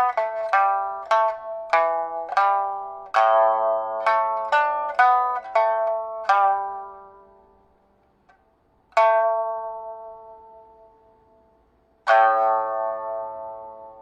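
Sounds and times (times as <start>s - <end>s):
plucked lute chords: 0.0s - 14.0s.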